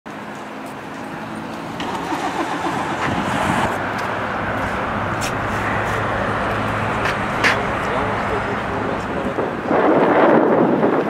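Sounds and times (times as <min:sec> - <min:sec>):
road traffic: 0:00.1 - 0:11.0.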